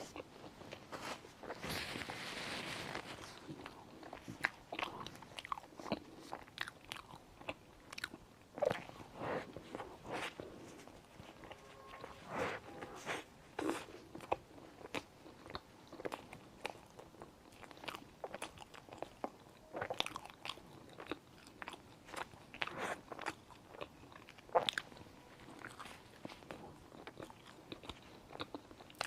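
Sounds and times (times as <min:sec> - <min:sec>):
person biting and chewing: 0:03.2 - 0:10.8, 0:12.4 - 0:29.0.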